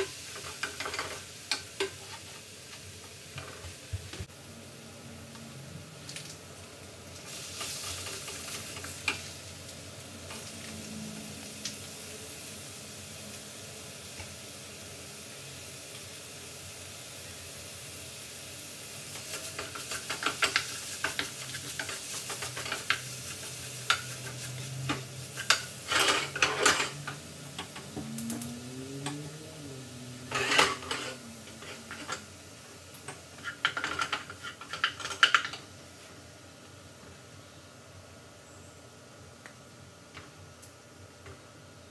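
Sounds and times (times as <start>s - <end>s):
meat sizzling in frying pan: 0.0s - 4.3s, 5.5s - 35.7s.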